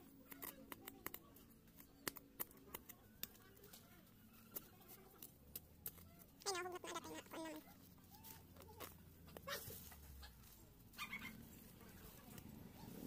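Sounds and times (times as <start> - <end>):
hands scraping dry soil: 0.0 - 13.0.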